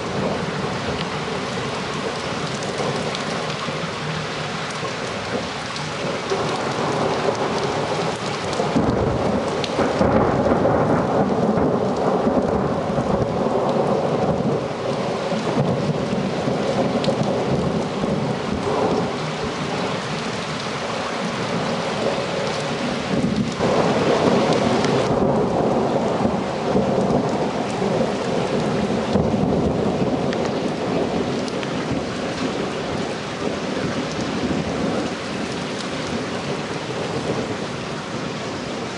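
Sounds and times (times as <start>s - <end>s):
rain falling: 0.0s - 38.9s
thunder rumbling: 0.0s - 38.9s.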